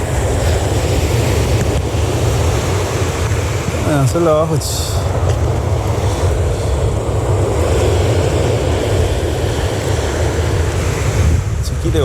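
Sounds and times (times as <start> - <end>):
surf washing: 0.0 - 12.0
wind buffeting microphone: 0.0 - 12.0.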